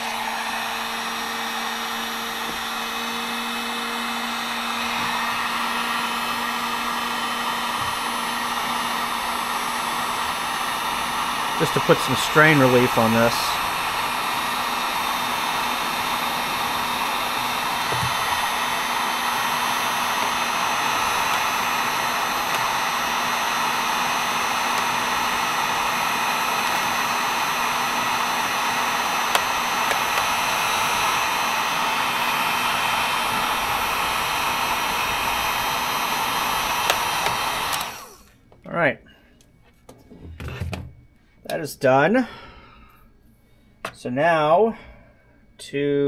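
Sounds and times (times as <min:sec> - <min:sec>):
heat gun blowing: 0:00.0 - 0:38.4.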